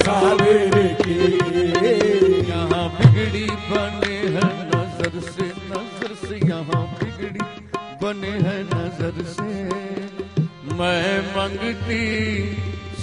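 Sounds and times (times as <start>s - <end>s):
harmonium melody: 0.0s - 13.0s
tabla beat: 0.0s - 13.0s.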